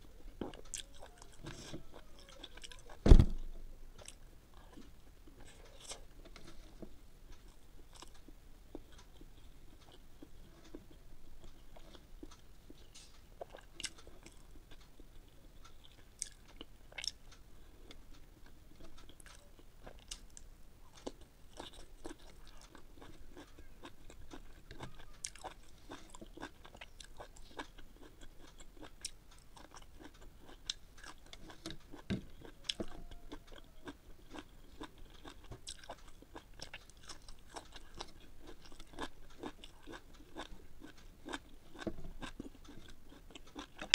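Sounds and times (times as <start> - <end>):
chewing and crunching food: 0.0 - 43.9.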